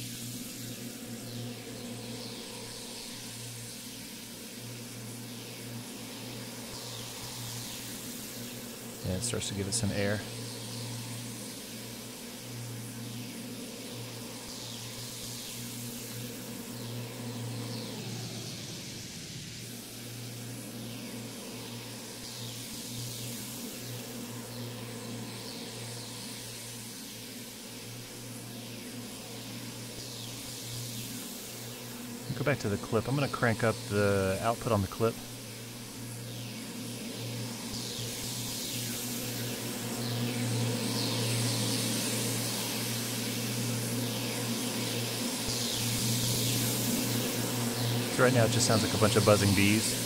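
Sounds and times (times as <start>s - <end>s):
airy hiss: 0.0s - 50.0s
steady low drone: 0.0s - 50.0s.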